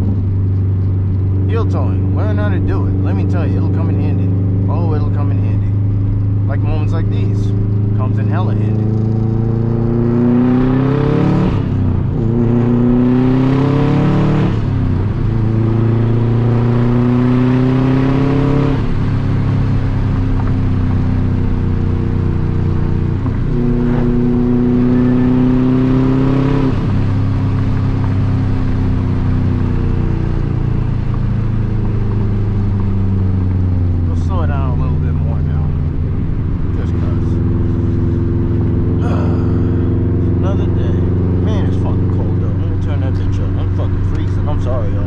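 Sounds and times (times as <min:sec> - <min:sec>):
car engine accelerating through gears: 0:00.0 - 0:45.0.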